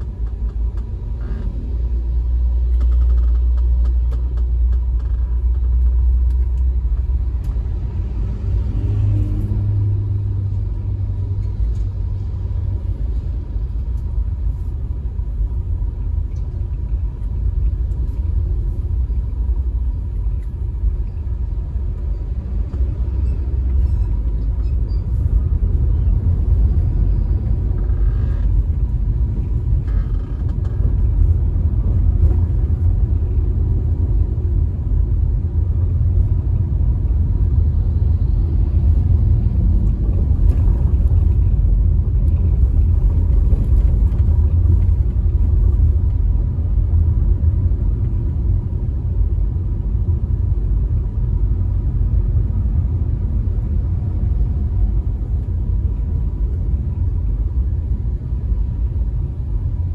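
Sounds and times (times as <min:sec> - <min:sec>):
car engine: 0:00.0 - 0:59.9
tyre-on-road noise: 0:00.0 - 0:59.9.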